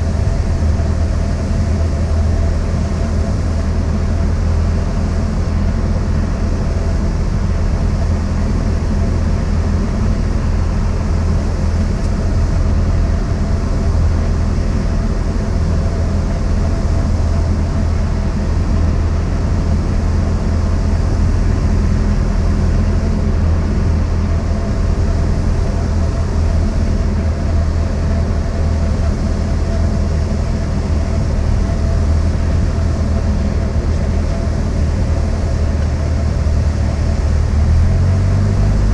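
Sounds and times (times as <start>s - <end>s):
small plane engine and propeller: 0.0s - 38.9s.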